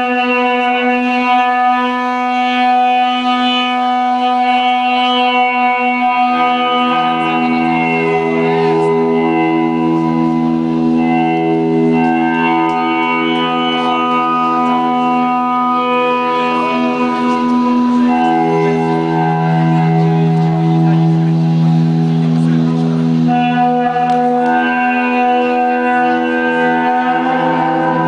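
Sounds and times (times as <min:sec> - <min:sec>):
band playing droning chord: 0:00.0 - 0:28.0.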